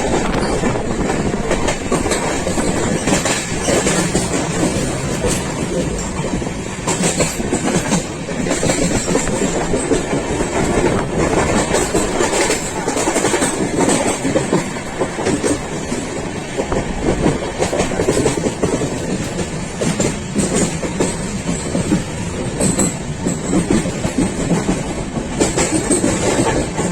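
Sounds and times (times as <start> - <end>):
train rumbling on track: 0.0 - 26.9
wheels clacking over rail joints: 0.0 - 26.9.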